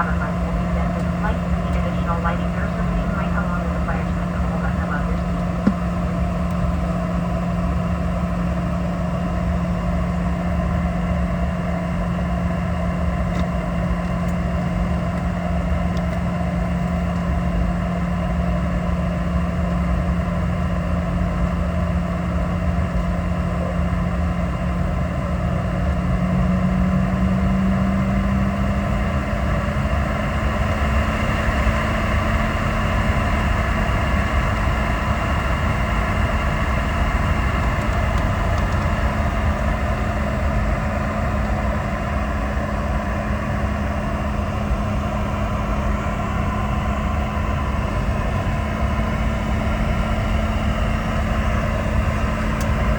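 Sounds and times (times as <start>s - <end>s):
jet engines droning in cabin: 0.0s - 52.9s.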